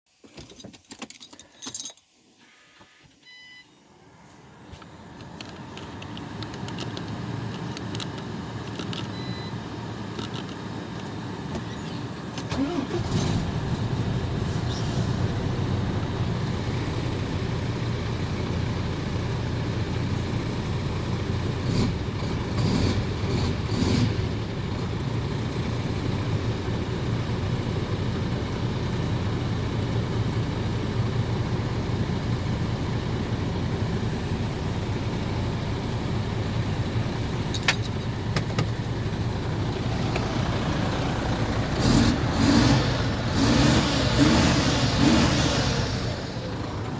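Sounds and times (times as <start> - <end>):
diesel truck engine idling and revving: 4.0 - 46.9.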